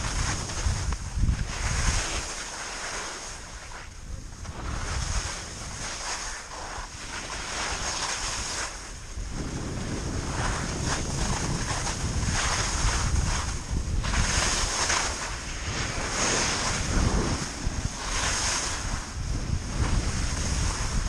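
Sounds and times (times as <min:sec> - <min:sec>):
skis sliding over snow: 0:00.0 - 0:21.0
wind rushing over microphone: 0:00.0 - 0:21.0.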